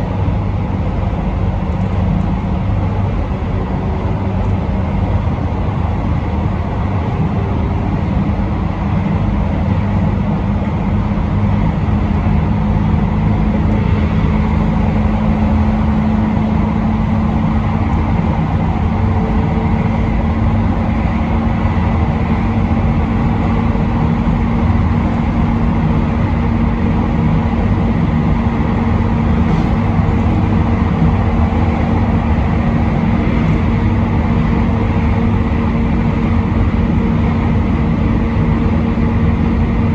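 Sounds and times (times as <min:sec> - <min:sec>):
train motor hum: 0:00.0 - 0:39.9
train wheels rumbling on rail: 0:00.0 - 0:39.9.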